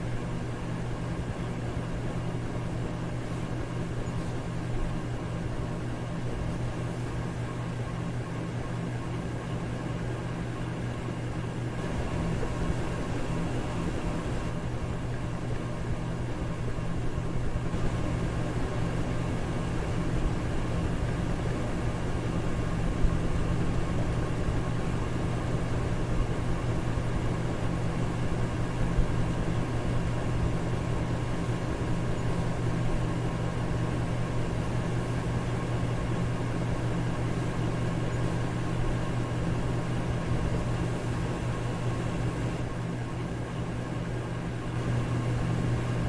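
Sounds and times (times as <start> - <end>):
electric fan air rush: 0.0 - 46.0
fan motor hum: 0.0 - 46.0.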